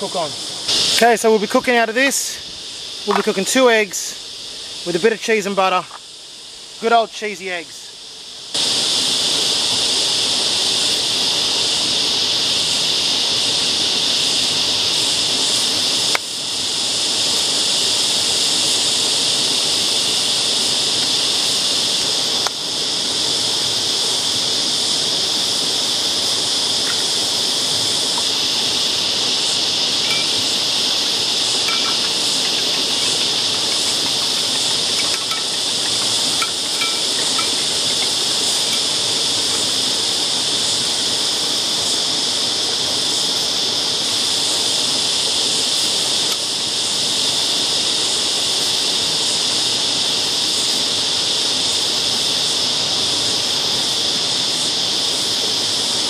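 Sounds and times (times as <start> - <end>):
cicada chorus drone: 0.0 - 56.0.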